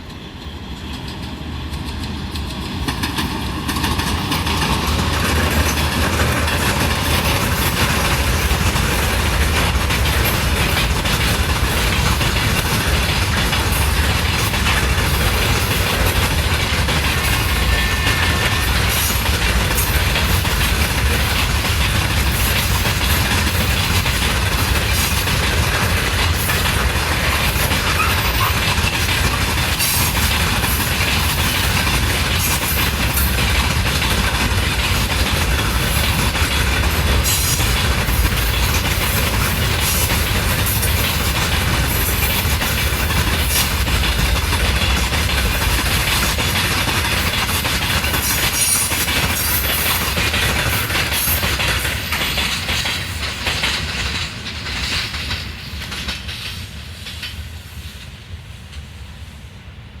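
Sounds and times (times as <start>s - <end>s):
wheels clacking over rail joints: 0.0s - 57.5s
train rumble: 0.0s - 60.0s.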